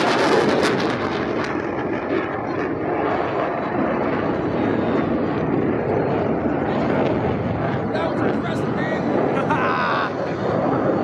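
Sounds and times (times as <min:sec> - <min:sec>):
fighter jets roaring in flight: 0:00.0 - 0:11.0.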